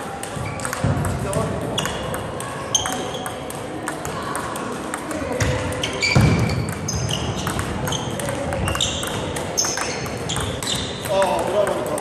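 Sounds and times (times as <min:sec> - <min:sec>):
table tennis ball clicking: 0:00.2 - 0:12.0.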